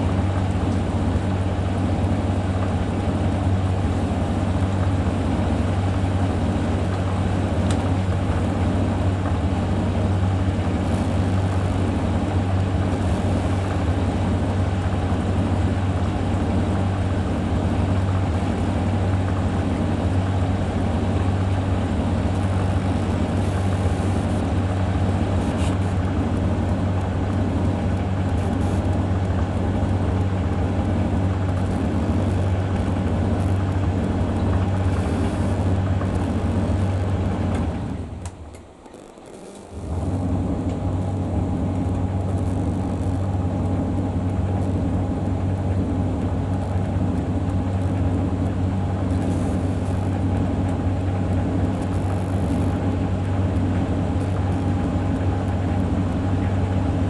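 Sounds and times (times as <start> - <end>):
washing machine and dryer drone: 0.0 - 57.0.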